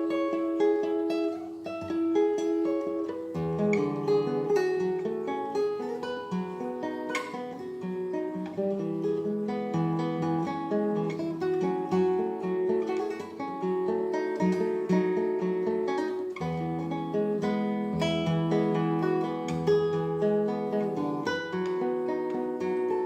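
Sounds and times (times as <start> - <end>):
classical guitar playing: 0.0 - 23.0.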